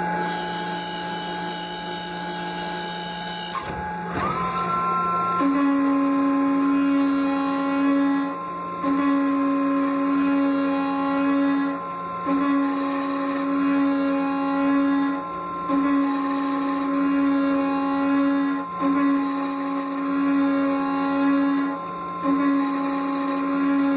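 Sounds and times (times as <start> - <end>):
machine cutting metal whine: 0.0 - 23.9.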